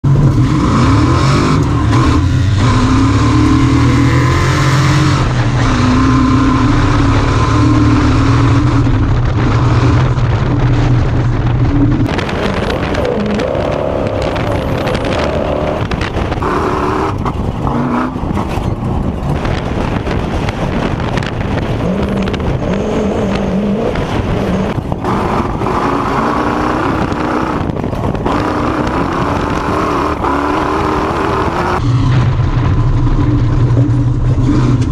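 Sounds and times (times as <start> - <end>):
off-road vehicle engine revving: 0.0 - 34.9.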